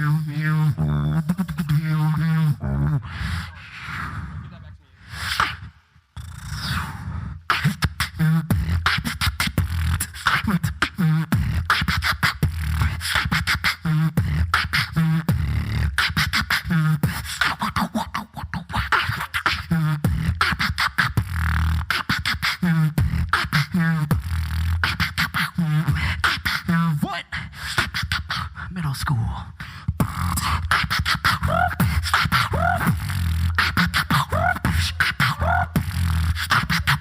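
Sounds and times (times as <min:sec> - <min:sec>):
beatboxing: 0:00.0 - 0:37.0.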